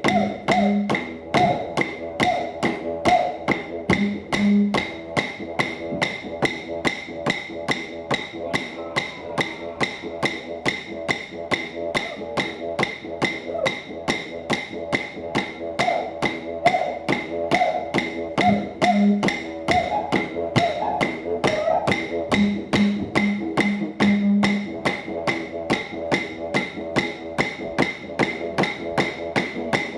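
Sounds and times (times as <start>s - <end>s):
didgeridoo droning: 0.0s - 29.9s
wooden clapsticks beat: 0.0s - 29.9s.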